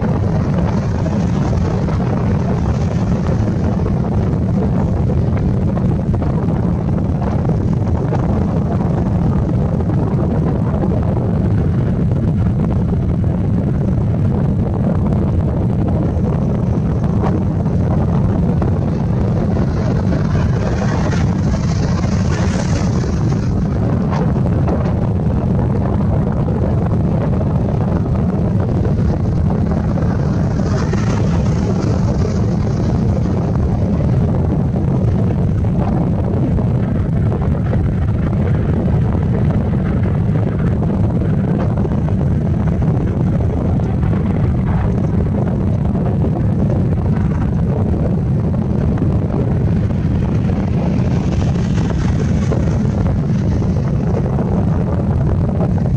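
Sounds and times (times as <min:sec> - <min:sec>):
helicopter rotor and turbine noise: 0:00.0 - 0:55.9
wind buffeting microphone: 0:00.0 - 0:55.9.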